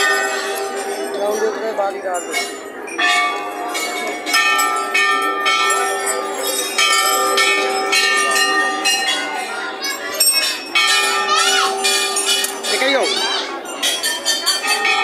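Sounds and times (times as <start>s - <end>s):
brass bells ringing: 0.0s - 15.0s.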